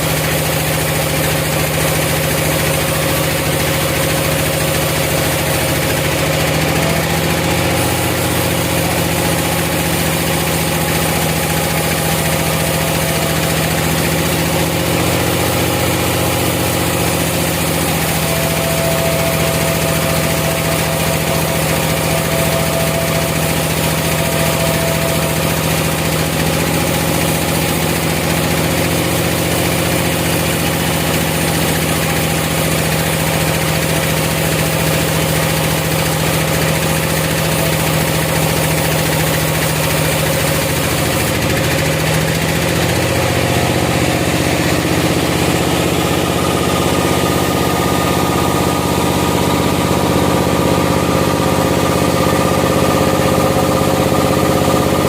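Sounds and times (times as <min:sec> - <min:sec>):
high machine whine: 0:00.0 - 0:55.0
sawmill motor humming: 0:00.0 - 0:55.0.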